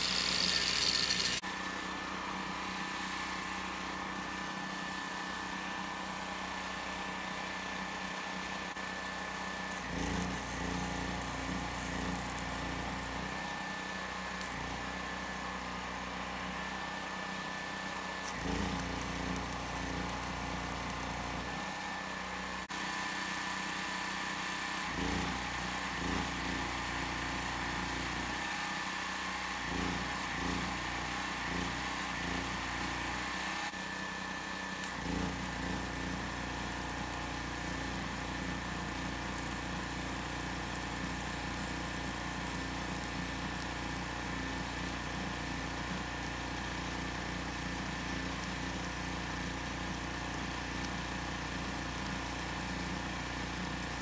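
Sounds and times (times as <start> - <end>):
welding arc crackle: 0.0 - 1.4, 8.4 - 33.5, 34.3 - 54.0.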